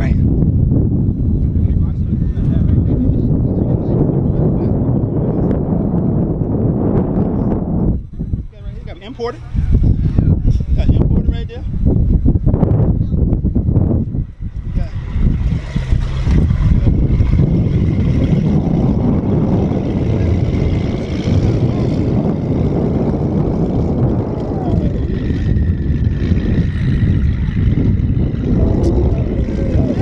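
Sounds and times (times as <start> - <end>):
car engines rumbling: 0.0 - 30.0.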